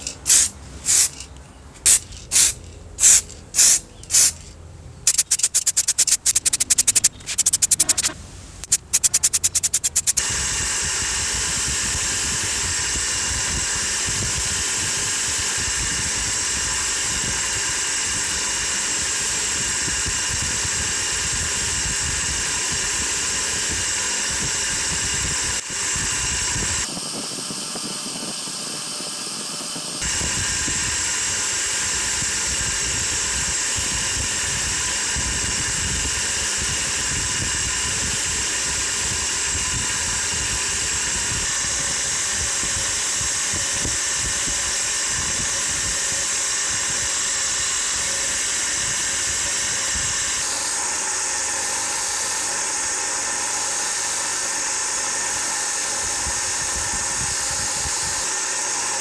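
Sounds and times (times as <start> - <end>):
bench polisher whirring: 5.1 - 59.0.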